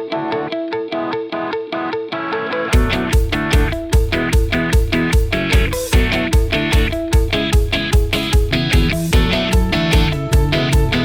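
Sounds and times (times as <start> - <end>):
guitar rock music: 0.0 - 11.0.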